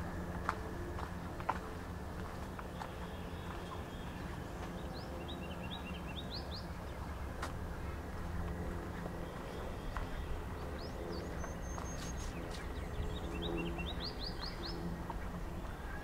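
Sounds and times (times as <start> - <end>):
low outdoor rumble: 0.0 - 16.0
songbirds chirping: 0.0 - 16.0.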